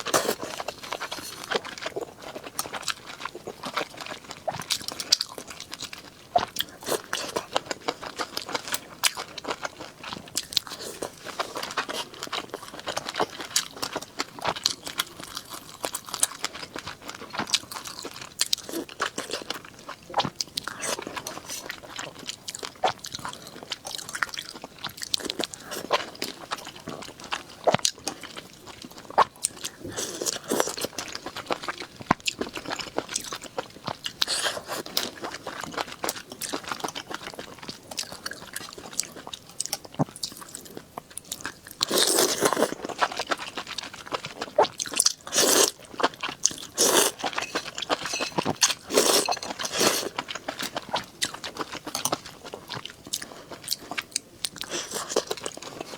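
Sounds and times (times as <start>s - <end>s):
person chewing and crunching food: 0.0s - 55.9s.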